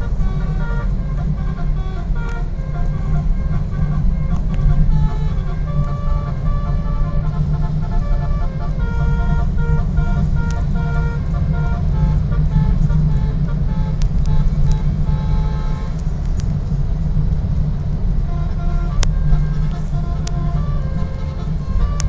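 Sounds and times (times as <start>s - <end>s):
bus horn tooting melody: 0.0s - 22.0s
engine and road rumble: 0.0s - 22.0s.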